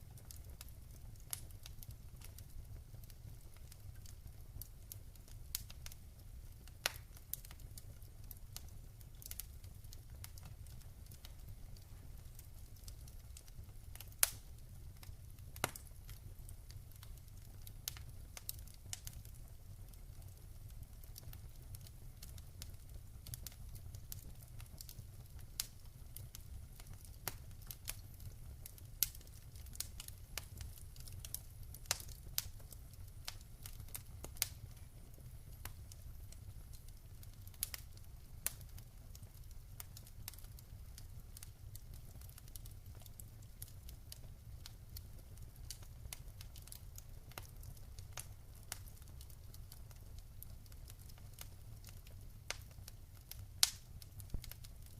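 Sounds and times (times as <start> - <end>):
soft rain patter: 0.0 - 54.9
wood fire crackling and popping: 0.0 - 54.9.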